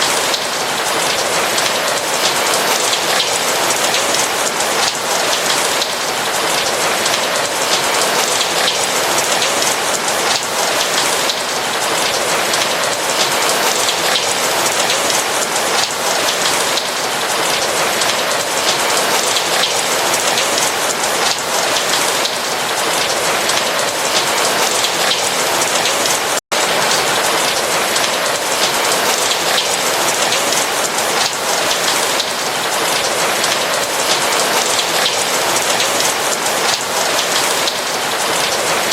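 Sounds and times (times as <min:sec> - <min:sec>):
rain falling on a roof: 0:00.0 - 0:38.9.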